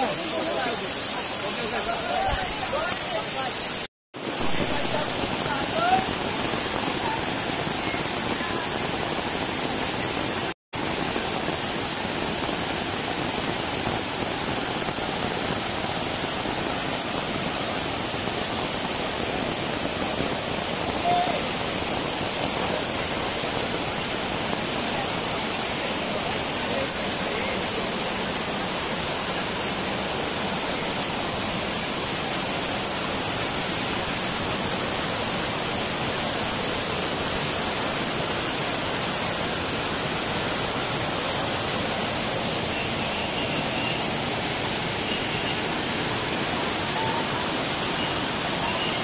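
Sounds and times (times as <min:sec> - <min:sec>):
water rushing over boulders: 0:00.0 - 0:49.0.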